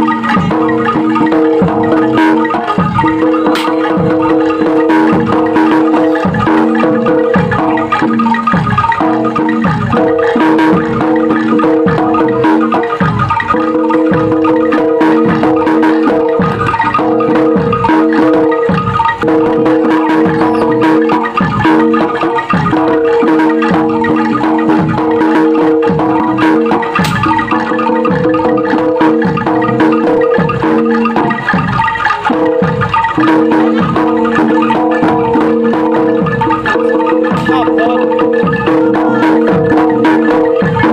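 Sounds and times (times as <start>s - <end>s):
gamelan music: 0.0s - 40.9s
metallophones ringing: 0.0s - 40.9s.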